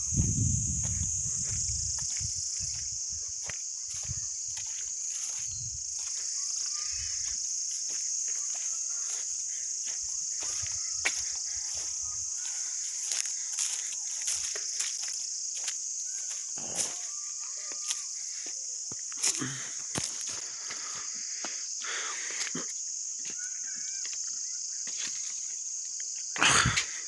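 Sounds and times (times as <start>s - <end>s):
insects chorus: 0.0s - 27.0s
footsteps on rocky path: 0.1s - 22.5s.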